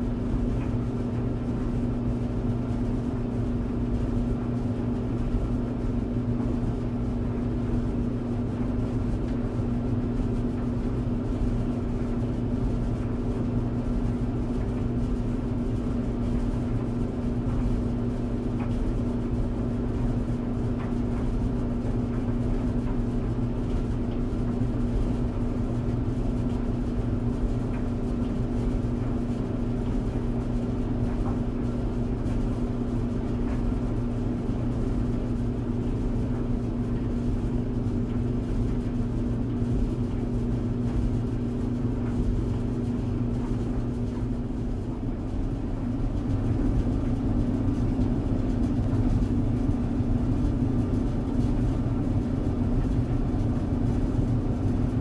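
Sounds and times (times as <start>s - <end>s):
tumble dryer running: 0.0s - 55.0s.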